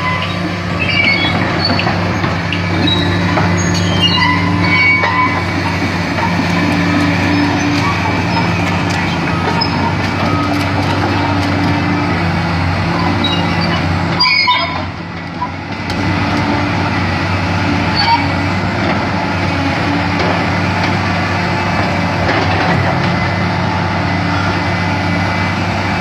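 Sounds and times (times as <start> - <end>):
excavator diesel engine running: 0.0 - 26.0
machinery noise: 0.0 - 26.0.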